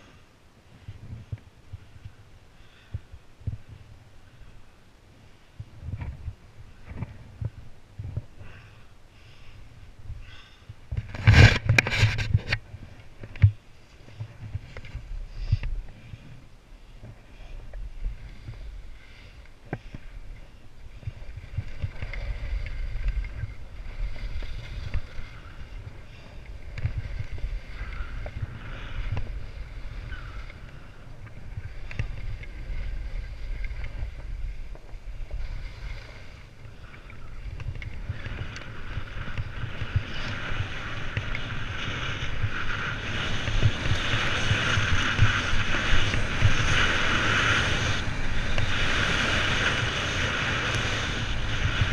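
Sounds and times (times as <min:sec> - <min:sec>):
skis sliding on packed snow: 0:05.2 - 0:51.9
wind buffeting microphone: 0:09.7 - 0:51.9.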